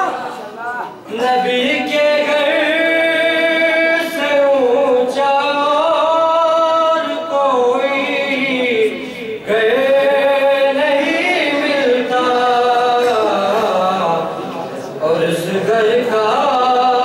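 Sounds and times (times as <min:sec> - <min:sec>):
man singing into microphone: 0:01.1 - 0:17.0.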